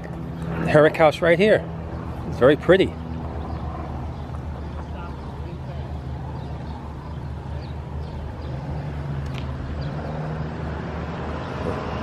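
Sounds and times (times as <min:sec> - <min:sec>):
road traffic hum: 0:00.0 - 0:12.0
vehicle engine running: 0:00.0 - 0:12.0.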